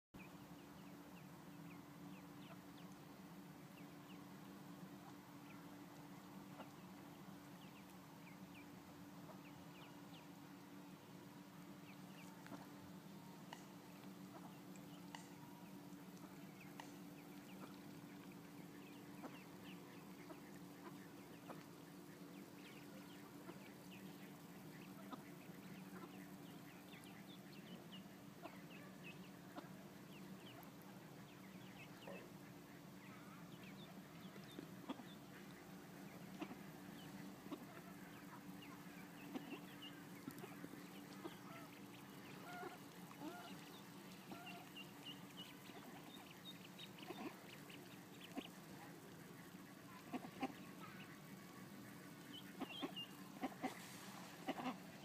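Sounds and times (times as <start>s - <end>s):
steady low hum: 0.2s - 55.0s
ducklings peeping: 6.4s - 10.3s, 11.7s - 55.0s.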